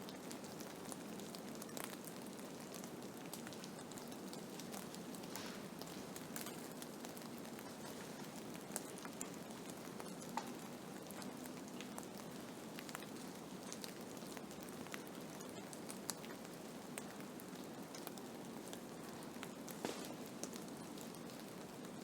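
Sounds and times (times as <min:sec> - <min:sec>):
light ticks pattering: 0:00.1 - 0:22.0.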